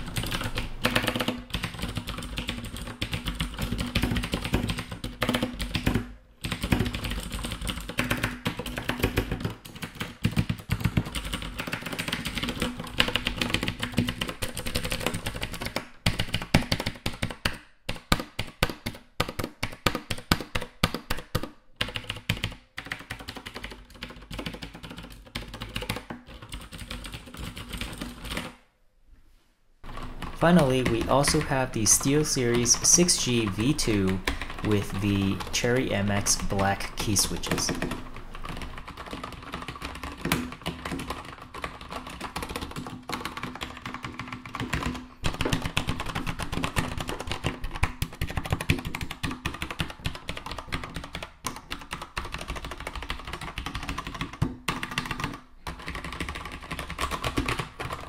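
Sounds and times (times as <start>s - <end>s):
clicky mechanical keyboard typing: 0.0s - 28.6s, 29.8s - 58.0s.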